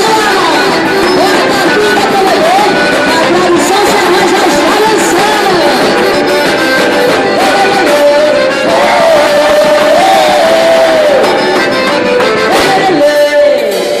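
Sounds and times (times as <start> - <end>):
band music: 0.0 - 14.0.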